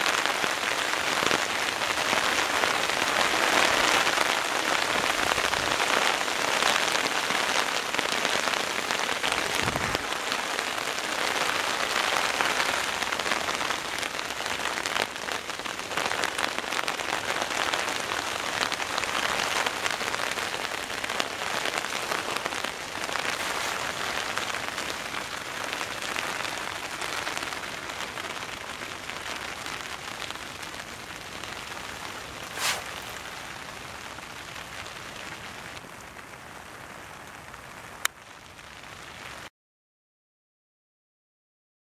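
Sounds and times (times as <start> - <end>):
heavy rain on a tarp: 0.0 - 39.5.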